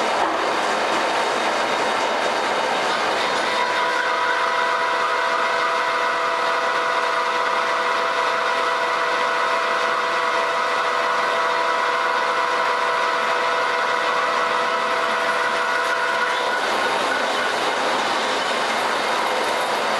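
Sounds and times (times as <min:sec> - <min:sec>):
lathe tool cutting steel: 0:00.0 - 0:19.9
machine whine: 0:00.0 - 0:19.9.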